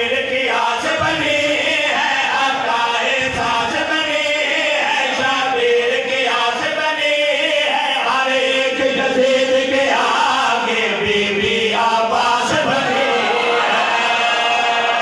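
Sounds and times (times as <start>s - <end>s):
men chanting through microphones: 0.0s - 15.0s.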